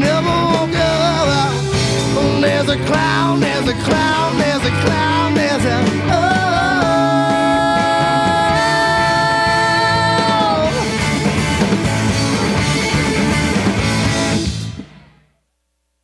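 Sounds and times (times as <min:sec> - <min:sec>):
electric guitar: 0:00.0 - 0:15.3
drums: 0:00.0 - 0:15.5.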